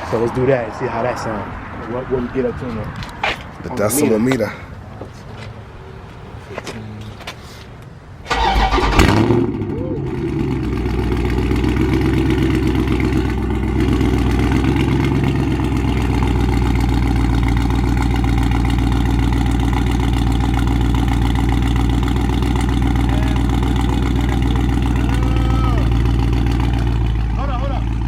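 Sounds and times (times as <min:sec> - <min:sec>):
car engine idling: 0:04.1 - 0:28.0.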